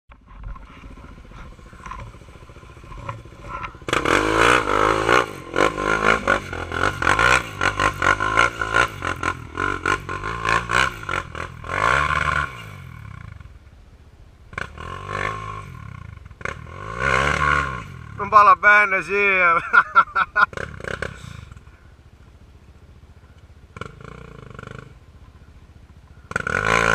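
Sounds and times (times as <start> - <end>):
atv engine revving: 0.1 - 26.9.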